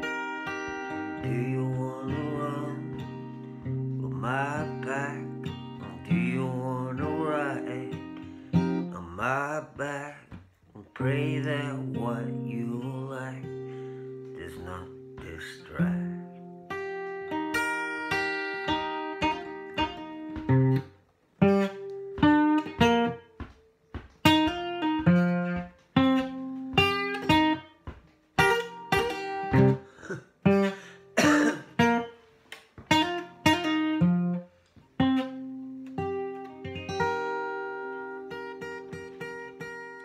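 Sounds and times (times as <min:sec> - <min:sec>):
acoustic guitar picking: 0:00.0 - 0:40.0.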